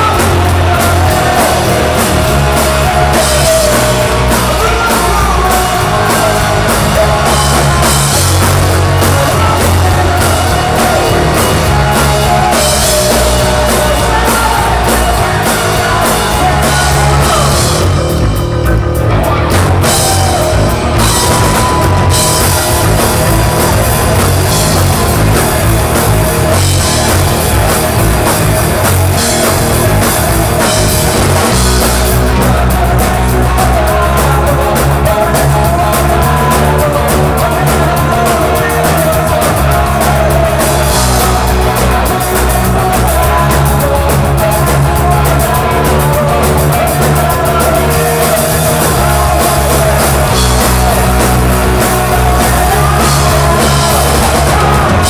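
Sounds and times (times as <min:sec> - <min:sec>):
bass guitar: 0:00.0 - 0:55.0
drum kit: 0:00.0 - 0:55.0
electric guitars: 0:00.0 - 0:55.0
man singing: 0:00.0 - 0:55.0.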